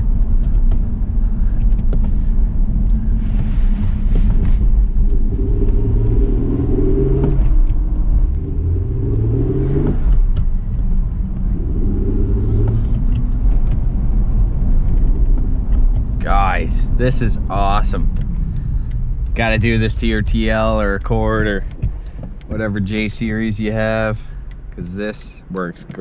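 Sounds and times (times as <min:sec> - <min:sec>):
car engine accelerating: 0:00.0 - 0:26.0
low road rumble: 0:00.0 - 0:26.0.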